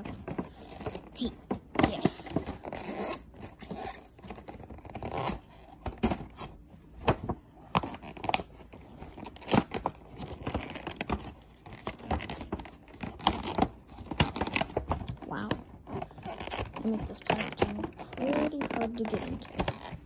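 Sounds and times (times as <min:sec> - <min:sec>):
crinkles: 0:00.0 - 0:20.0
plastic packaging tearing: 0:00.0 - 0:20.0.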